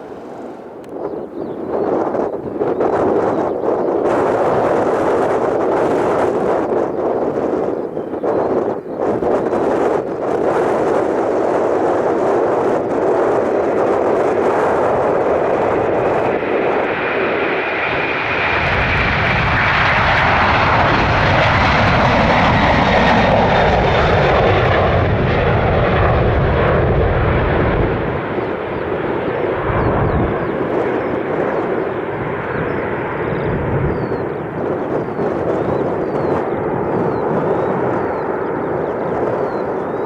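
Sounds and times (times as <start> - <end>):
jet engines at takeoff: 0.0 - 40.0.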